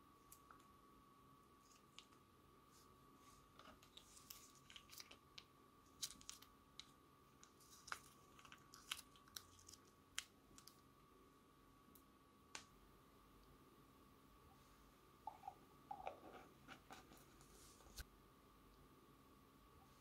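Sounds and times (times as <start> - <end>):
faint high hum: 0.0 - 20.0.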